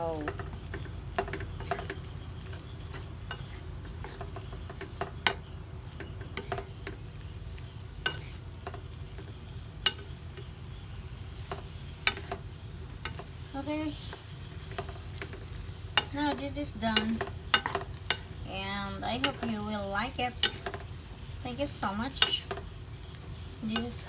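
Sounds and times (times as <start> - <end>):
food sizzling in a pan: 0.0 - 24.0
utensil clicking against pan: 0.1 - 10.6, 11.4 - 24.0.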